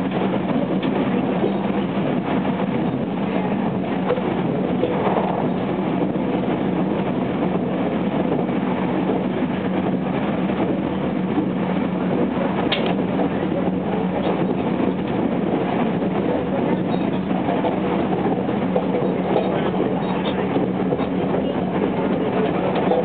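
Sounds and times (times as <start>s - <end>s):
constant low hum: 0.0s - 23.0s
train wheels rumbling on rail: 0.0s - 23.0s.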